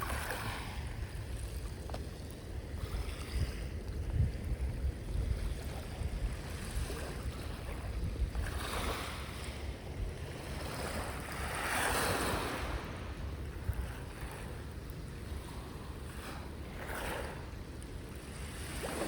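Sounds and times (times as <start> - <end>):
ocean waves breaking: 0.0 - 19.0
wind buffeting microphone: 0.0 - 19.0.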